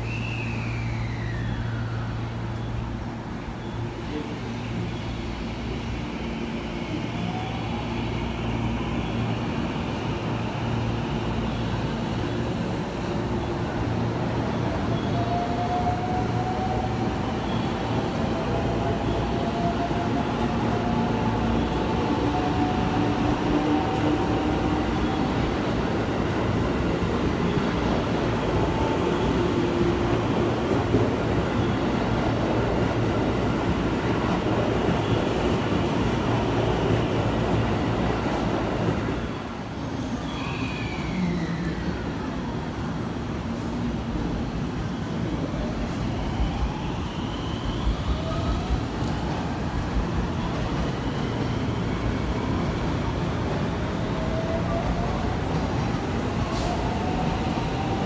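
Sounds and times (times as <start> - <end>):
electric train whine: 0.0 - 58.0.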